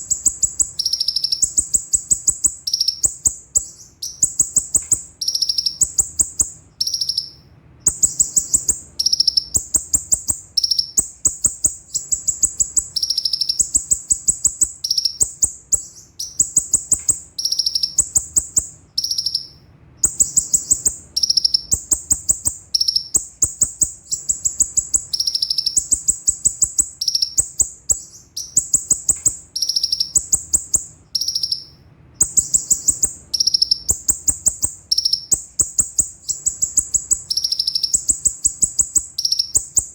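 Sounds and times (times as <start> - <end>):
sunbird singing high-pitched chips: 0.0 - 39.9.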